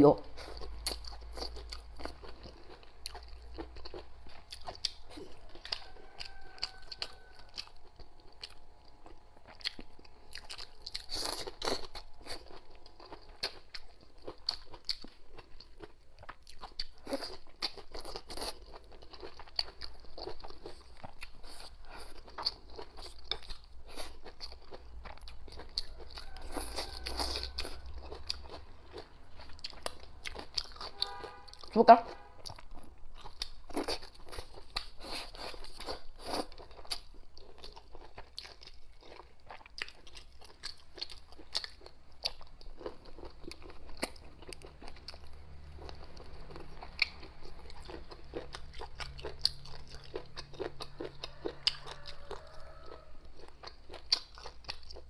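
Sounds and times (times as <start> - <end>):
person chewing crunchy food: 0.1 - 31.8, 32.4 - 55.0.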